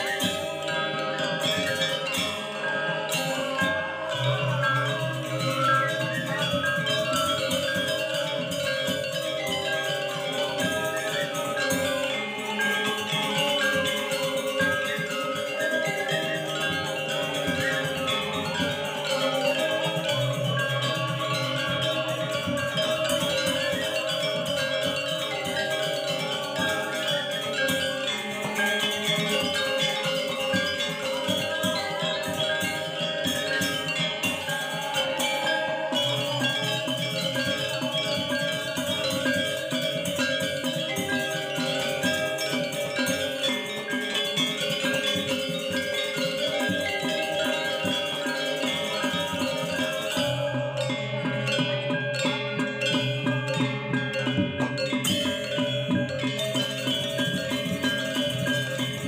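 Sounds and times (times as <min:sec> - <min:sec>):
gamelan playing: 0:00.0 - 0:59.0.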